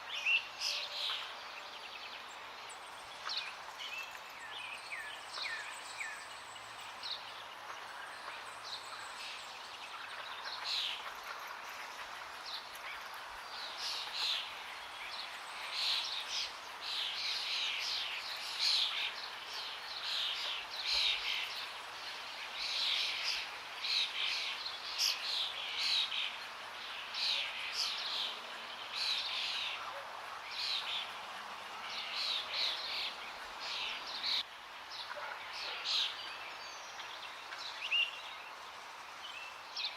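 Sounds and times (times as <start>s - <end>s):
flowing water: 0.0s - 39.9s
small birds chirping: 0.0s - 39.9s.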